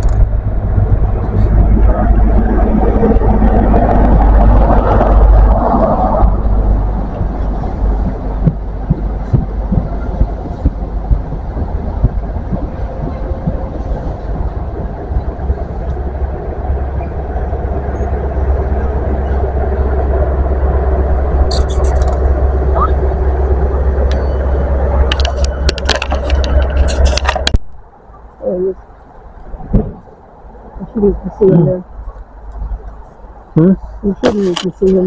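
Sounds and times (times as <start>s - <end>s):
diesel engine rumble: 0.0s - 35.0s.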